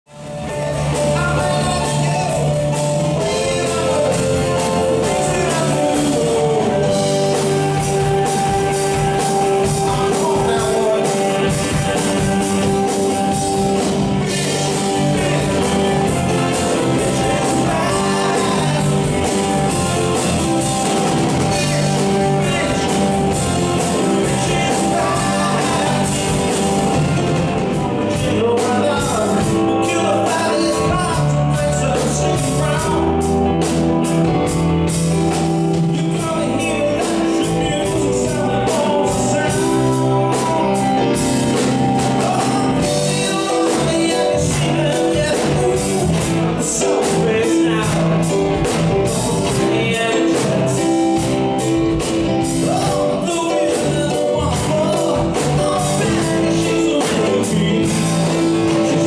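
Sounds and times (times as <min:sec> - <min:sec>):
bass guitar: 0:00.0 - 0:59.0
drum kit: 0:00.1 - 0:59.0
electric guitars: 0:00.1 - 0:59.0
grand piano: 0:00.1 - 0:59.0
person singing: 0:00.1 - 0:59.0.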